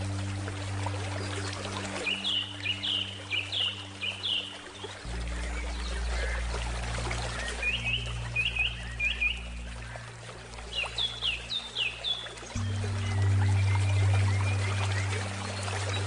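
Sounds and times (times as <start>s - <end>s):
flowing river water: 0.0s - 16.0s
soft sustained music: 0.0s - 16.0s.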